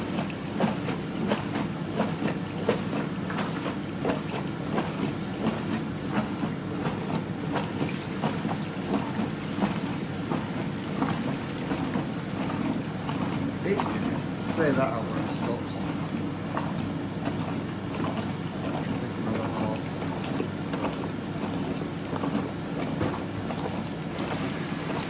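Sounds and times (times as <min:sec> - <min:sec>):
washing machine motor hum: 0:00.0 - 0:25.0
water churning and splashing: 0:00.0 - 0:25.0.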